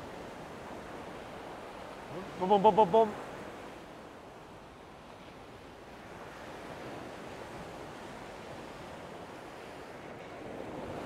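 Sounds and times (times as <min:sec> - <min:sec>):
surf washing up beach: 0:00.0 - 0:11.0.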